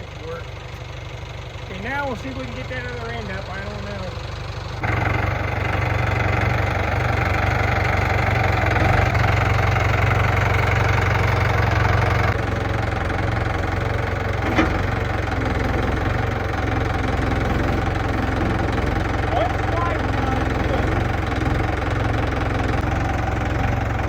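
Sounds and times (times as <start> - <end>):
machine engine running: 1.6 - 24.0.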